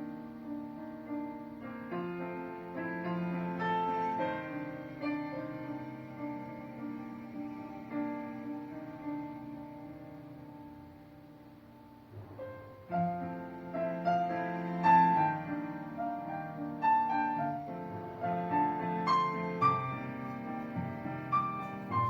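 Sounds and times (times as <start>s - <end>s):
piano music through tv speakers: 0.0s - 22.0s.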